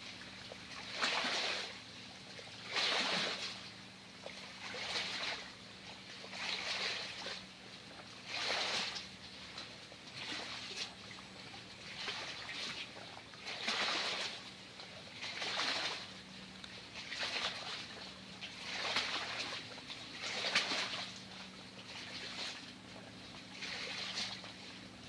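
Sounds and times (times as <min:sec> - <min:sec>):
faint low hum: 0:00.0 - 0:25.0
water sloshing: 0:00.0 - 0:25.0.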